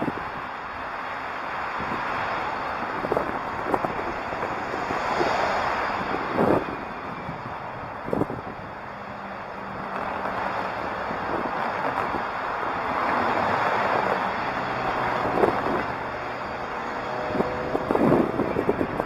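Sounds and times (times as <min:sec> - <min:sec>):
cars passing on road: 0:00.0 - 0:19.0.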